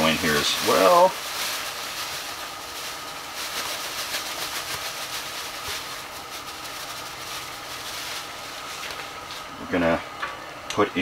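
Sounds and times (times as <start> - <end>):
meat and onion sizzling in oil: 0.0 - 9.4
plastic bag rustling: 0.0 - 9.6.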